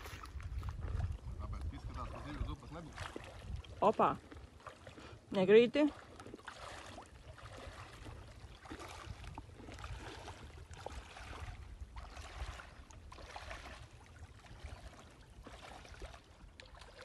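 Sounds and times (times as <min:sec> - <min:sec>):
wind rumble on microphone: 0:00.0 - 0:04.6, 0:07.4 - 0:17.0
water lapping and splashing: 0:00.0 - 0:17.0.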